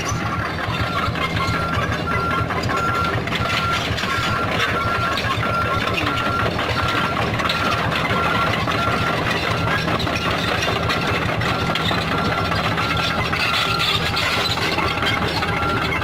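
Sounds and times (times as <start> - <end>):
excavator diesel engine running: 0.0 - 16.0
high-pitched beeping alarm: 0.0 - 16.0.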